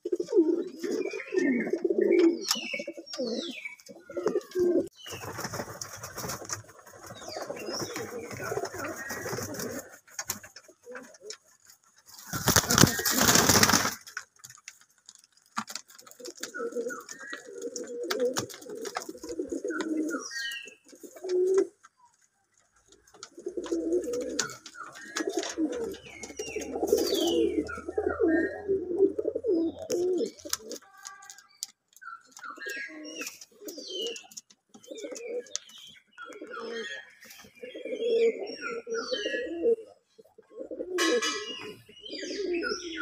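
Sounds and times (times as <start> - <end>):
pigeons cooing: 0.0 - 14.0, 15.7 - 21.8, 22.8 - 43.0.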